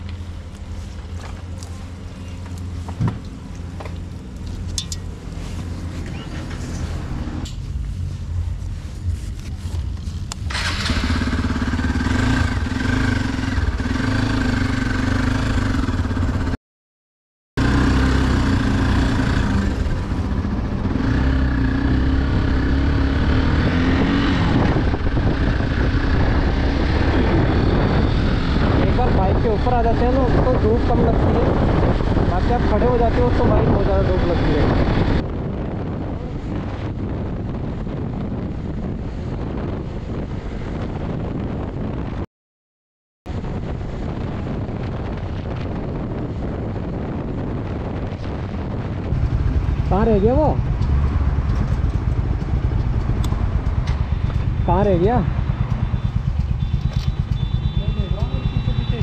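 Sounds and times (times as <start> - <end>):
motorcycle engine running: 0.0 - 16.6, 17.6 - 39.9, 43.3 - 59.0.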